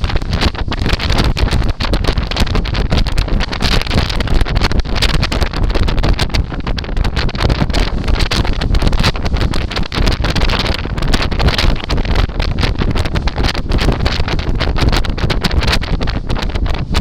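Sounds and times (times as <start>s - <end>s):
boat running noise: 0.0s - 17.0s
wind buffeting microphone: 0.0s - 17.0s.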